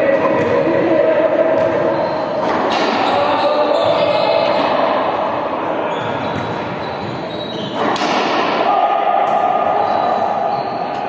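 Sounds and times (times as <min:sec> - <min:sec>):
balls bouncing on indoor court: 0:00.0 - 0:11.0
players' voices: 0:00.0 - 0:11.0.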